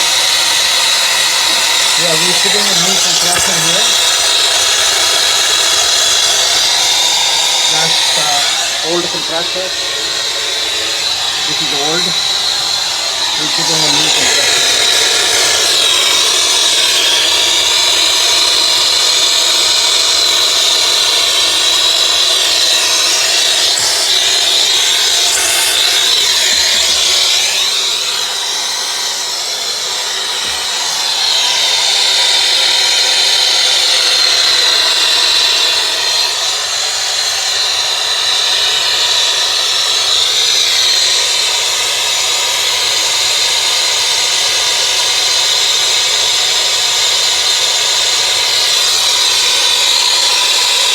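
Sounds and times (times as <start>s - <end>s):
machine noise with high whine: 0.0s - 50.9s.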